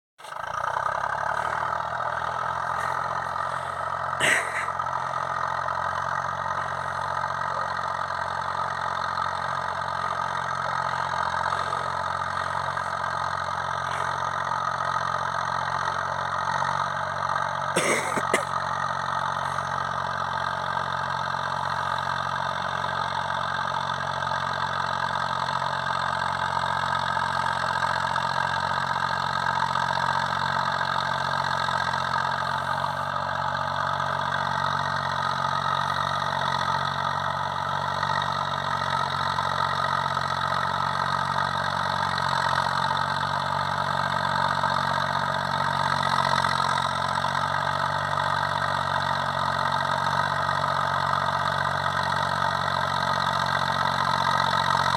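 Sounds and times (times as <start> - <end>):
tractor diesel engine running: 0.2 - 54.9.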